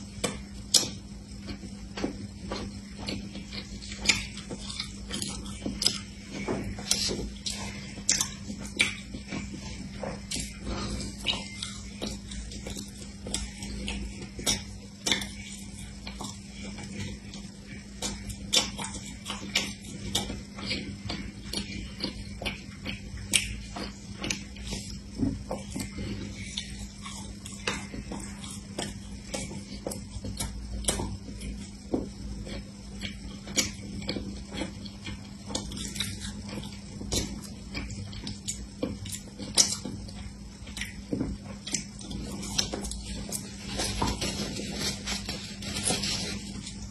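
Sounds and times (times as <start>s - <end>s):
crunchy chewing: 0.0s - 46.9s.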